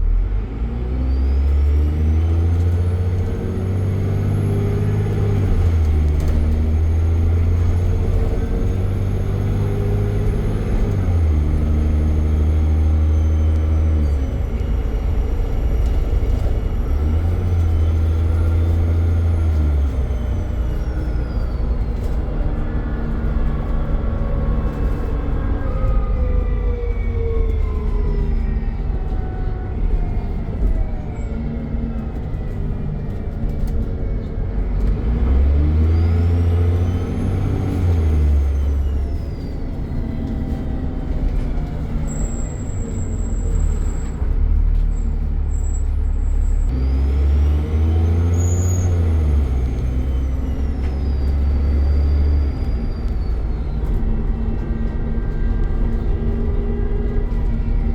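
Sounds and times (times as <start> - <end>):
bus diesel engine running: 0.0 - 57.9.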